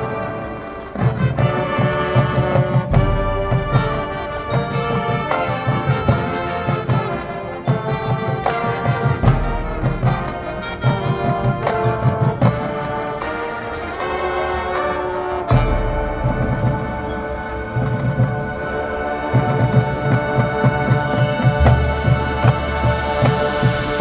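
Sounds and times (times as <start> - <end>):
brass section playing chords: 0.0 - 24.0.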